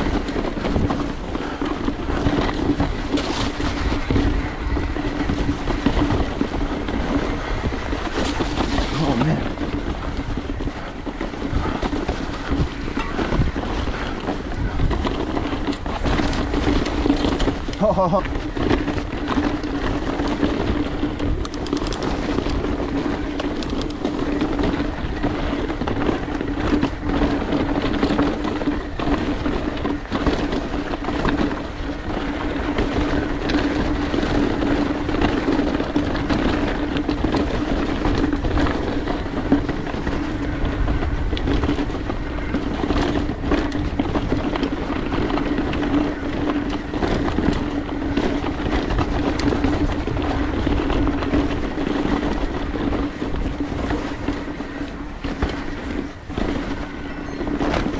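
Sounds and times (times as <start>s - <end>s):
bike rattling: 0.0s - 57.9s
bike tyres rolling over dirt: 0.0s - 57.9s.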